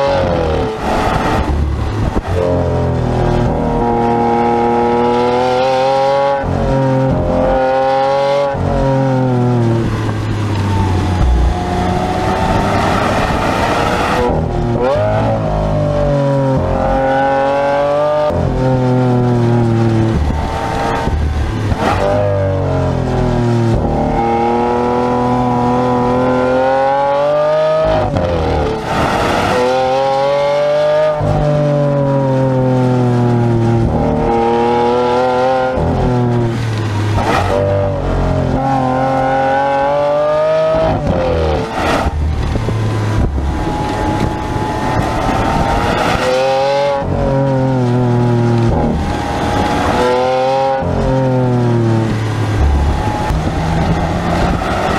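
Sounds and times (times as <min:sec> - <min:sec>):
car engine accelerating through gears: 0:00.0 - 0:54.9.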